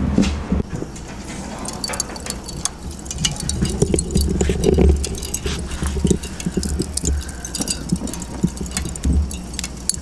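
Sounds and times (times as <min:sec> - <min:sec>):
steady low rumble: 0:00.5 - 0:10.0
charcoal fire crackling and popping: 0:00.6 - 0:10.0.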